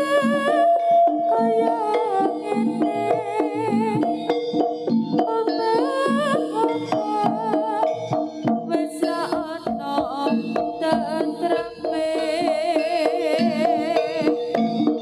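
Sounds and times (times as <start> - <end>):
sustained ringing pitched tones: 0.0 - 15.0
wavering melody line: 0.0 - 15.0.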